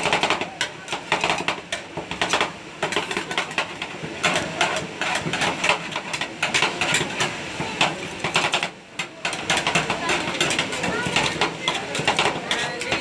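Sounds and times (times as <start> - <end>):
metal spatulas chopping on steel plate: 0.0 - 13.0.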